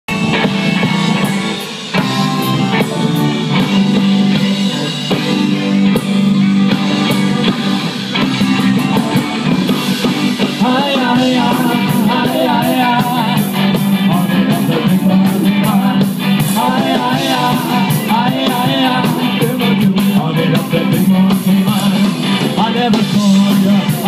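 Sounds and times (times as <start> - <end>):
drum kit: 0.1 - 24.0
electric guitars: 0.1 - 24.0.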